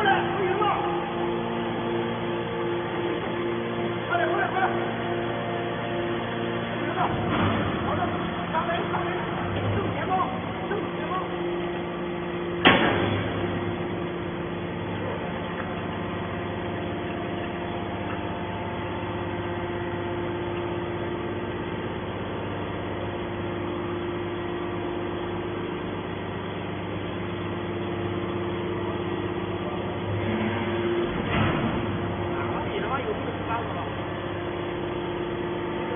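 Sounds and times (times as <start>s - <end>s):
metal baler humming: 0.0s - 35.9s.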